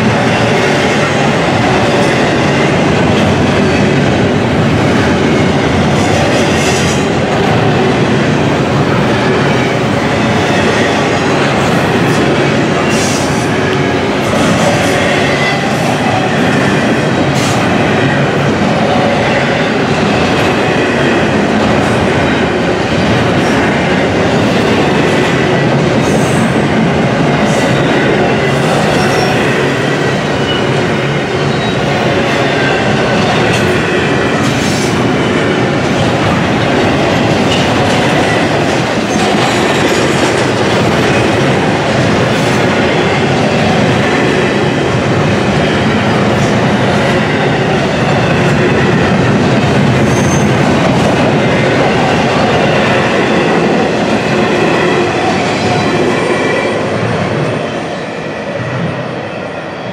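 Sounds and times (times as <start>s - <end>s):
rail clicks and clatter: 0.0s - 59.9s
train wheels rumbling on rails: 0.0s - 59.9s.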